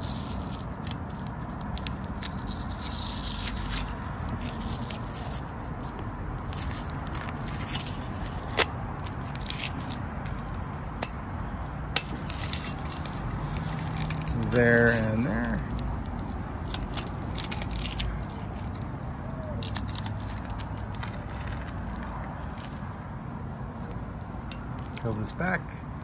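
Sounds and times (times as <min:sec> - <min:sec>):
tape and paper crackling: 0:00.0 - 0:22.9, 0:23.9 - 0:25.3.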